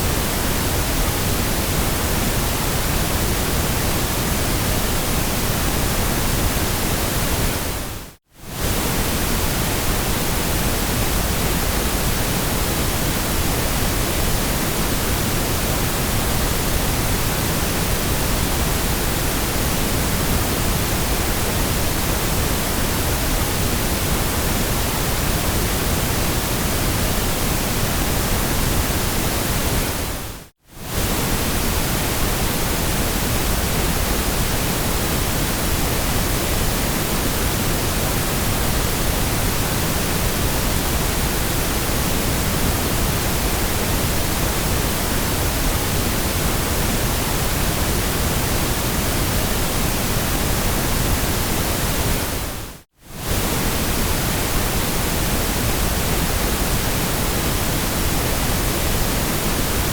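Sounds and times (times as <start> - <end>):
synthetic white noise hiss: 0.0 - 59.9.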